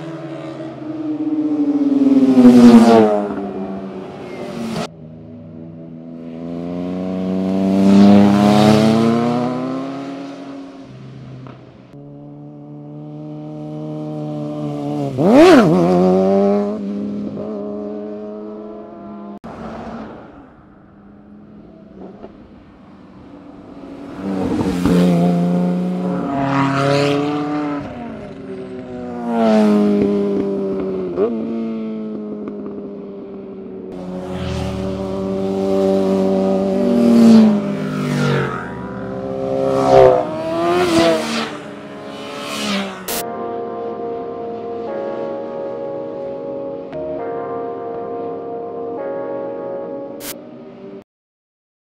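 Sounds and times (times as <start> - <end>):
motorcycles passing at speed: 0.0 - 43.3
sports cars passing at speed: 0.0 - 47.1.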